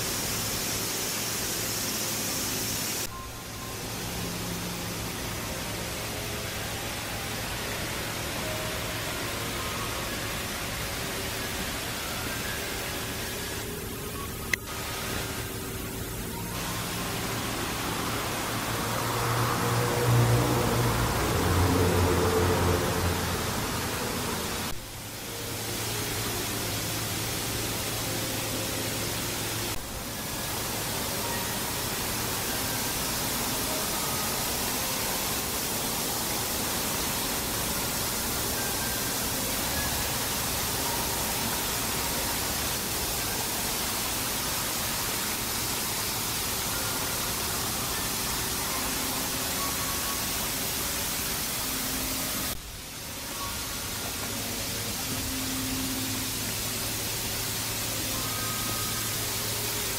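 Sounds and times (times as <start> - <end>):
steady broadband hiss: 0.0 - 59.9.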